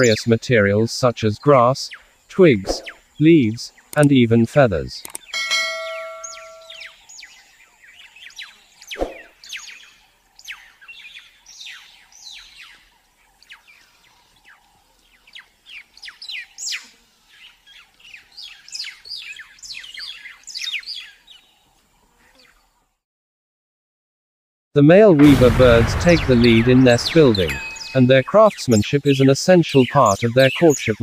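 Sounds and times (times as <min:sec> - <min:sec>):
birds chirping: 0:00.0 - 0:22.7, 0:25.2 - 0:31.0.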